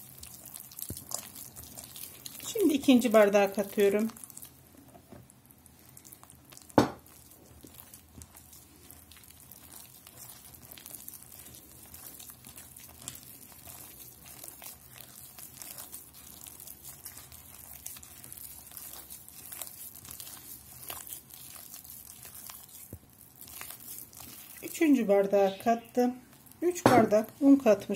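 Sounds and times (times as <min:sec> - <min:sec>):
hand mixing sticky dough: 0:00.0 - 0:27.9.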